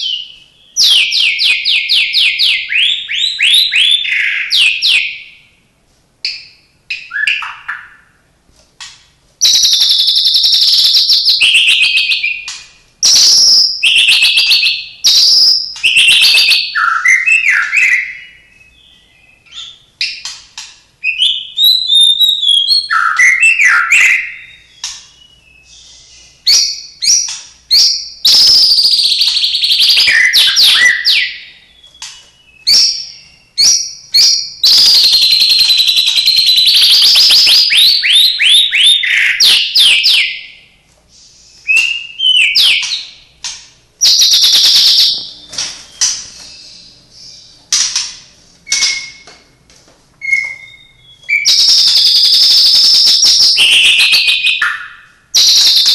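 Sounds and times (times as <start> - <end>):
bird singing whistles and trills: 0.0 - 5.6, 6.2 - 8.2, 9.4 - 49.3, 50.2 - 55.9.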